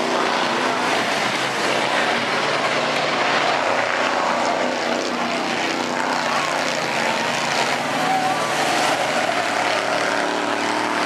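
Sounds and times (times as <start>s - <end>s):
bus engines running hard: 0.0s - 11.0s
wash of noise: 0.0s - 11.0s.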